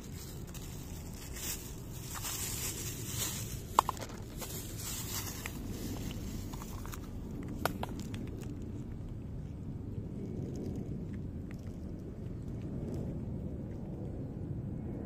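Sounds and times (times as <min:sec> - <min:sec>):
low background noise: 0:00.0 - 0:15.0
cats chewing wet food: 0:01.7 - 0:14.2.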